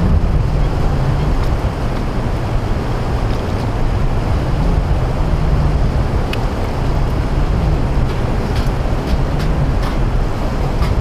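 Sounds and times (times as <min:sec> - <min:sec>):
sea surf: 0:00.0 - 0:11.0
wind rumbling on microphone: 0:00.0 - 0:11.0.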